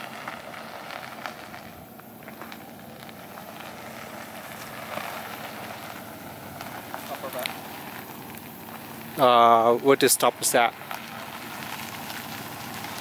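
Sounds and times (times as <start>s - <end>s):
car engine running low: 0.0s - 13.0s
tyres crunching on gravel: 0.0s - 13.0s.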